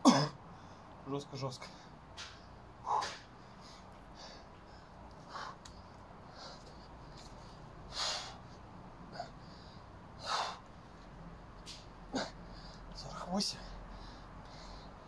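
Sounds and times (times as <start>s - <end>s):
man breathing heavily: 1.6s - 15.0s.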